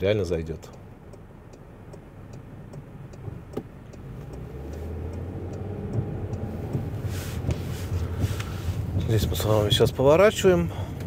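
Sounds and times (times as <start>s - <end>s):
engine and road noise: 0.0s - 11.0s
turn signal ticking: 0.0s - 11.0s.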